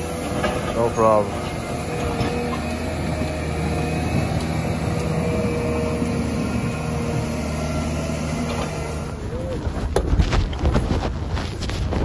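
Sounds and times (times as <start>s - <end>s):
diesel engine running: 0.0s - 12.0s
loader bucket pushing snow: 0.0s - 12.0s.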